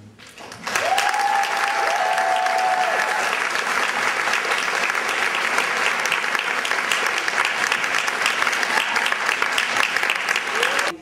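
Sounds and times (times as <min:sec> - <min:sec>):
audience applauding: 0:00.3 - 0:11.0.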